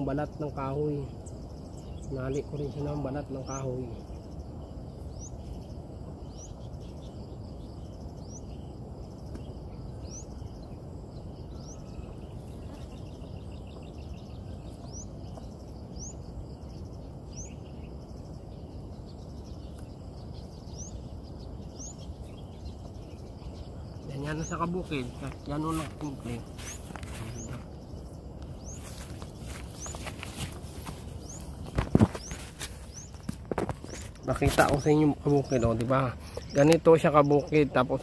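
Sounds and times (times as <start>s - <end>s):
bird chirping: 0.0s - 38.0s
low outdoor background noise: 0.0s - 38.0s.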